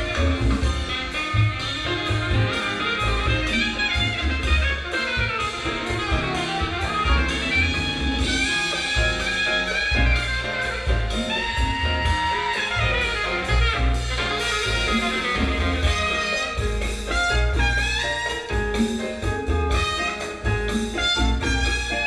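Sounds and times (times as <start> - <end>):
jazz with brass: 0.0 - 22.0.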